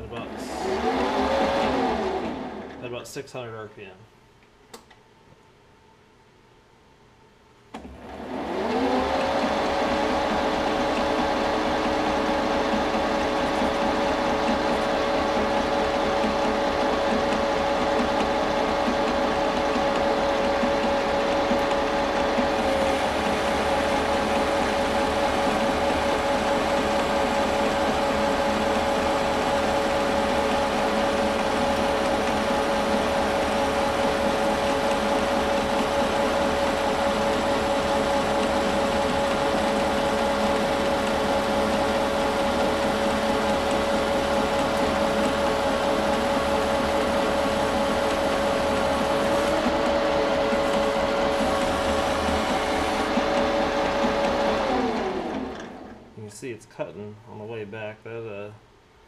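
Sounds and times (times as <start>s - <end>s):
metal lathe cutting whine: 8.2s - 56.0s.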